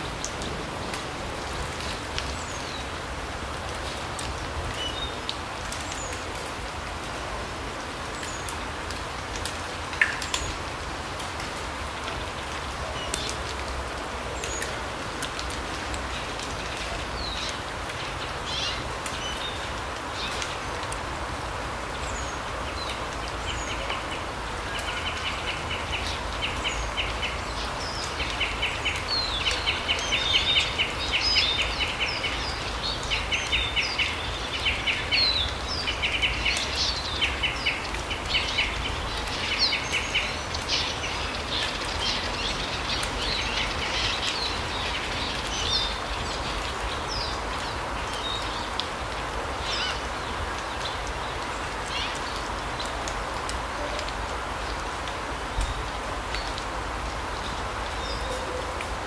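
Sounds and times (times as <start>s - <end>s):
rushing forest ambience: 0.0s - 59.0s.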